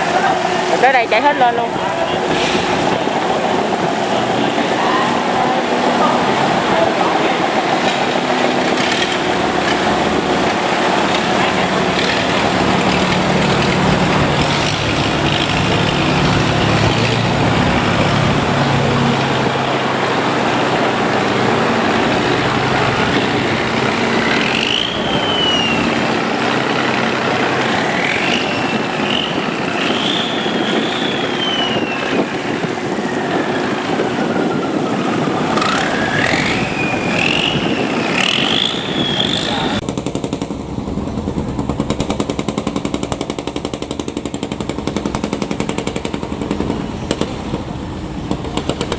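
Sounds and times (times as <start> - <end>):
rushing water: 0.0 - 39.8
high whine rising and falling: 0.0 - 48.2
boat engines running: 0.0 - 48.9.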